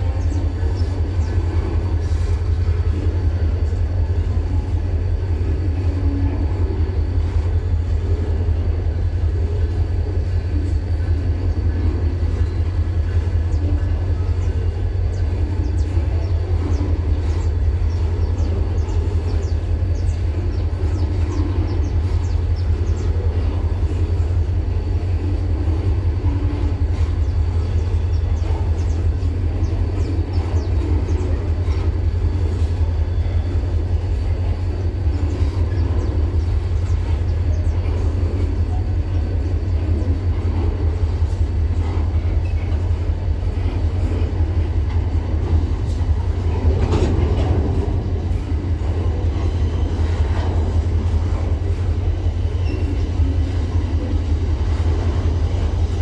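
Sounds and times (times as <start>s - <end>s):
train rumbling: 0.0s - 56.0s
wheels clicking over rails: 11.0s - 56.0s.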